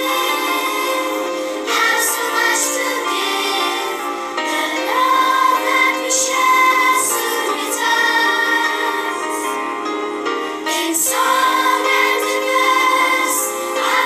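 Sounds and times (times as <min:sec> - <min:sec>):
children's choir singing: 0:00.0 - 0:14.0.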